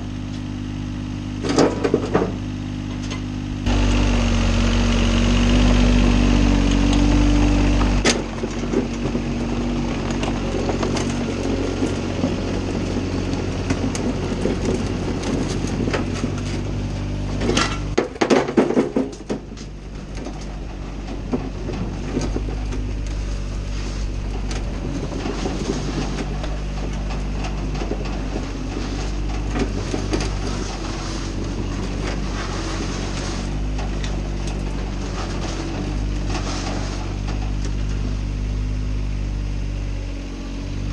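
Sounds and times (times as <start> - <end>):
diesel engine running: 0.0 - 40.9
tracks clanking on metal ramps: 1.4 - 38.3.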